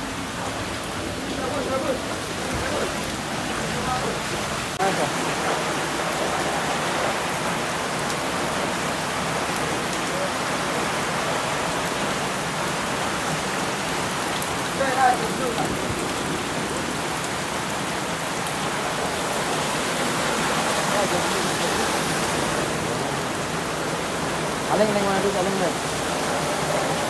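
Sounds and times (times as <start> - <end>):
heavy rain splashing on water: 0.0 - 27.0.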